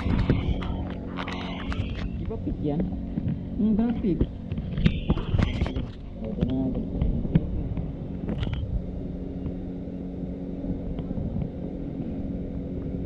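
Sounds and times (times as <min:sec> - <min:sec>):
low mechanical hum: 0:00.0 - 0:13.0
low rumble: 0:00.0 - 0:13.0.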